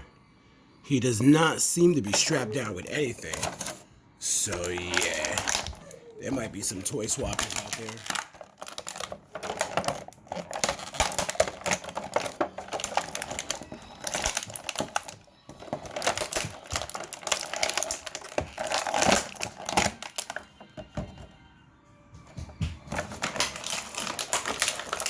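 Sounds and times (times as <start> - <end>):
plastic packaging crinkling: 1.7 - 21.3, 22.9 - 25.0.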